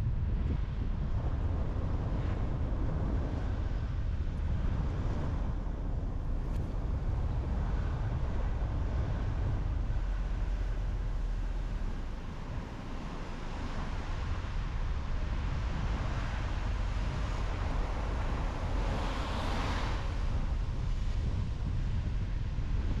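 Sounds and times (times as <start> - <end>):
car driving road noise: 0.0 - 23.0.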